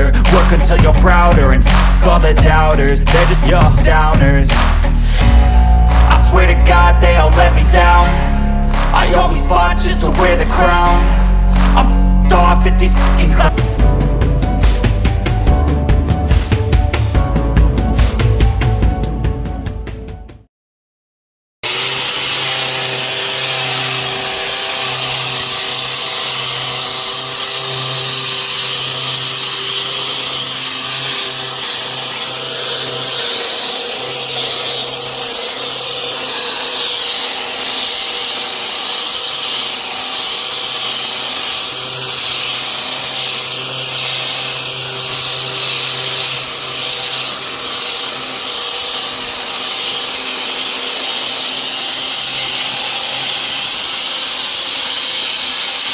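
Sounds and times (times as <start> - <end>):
electric sander running: 0.0 - 18.7, 21.6 - 55.9.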